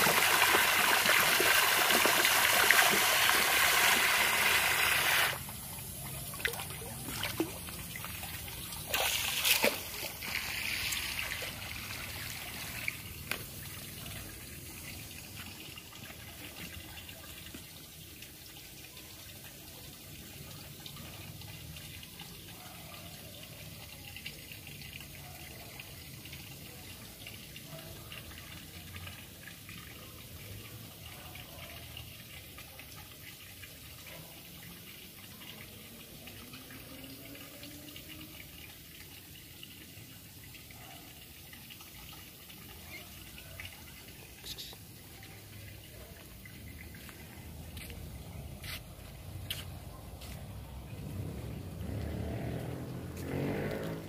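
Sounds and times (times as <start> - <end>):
water rushing in pool: 0.0 - 31.9, 32.6 - 54.0
water trickling: 0.0 - 54.0.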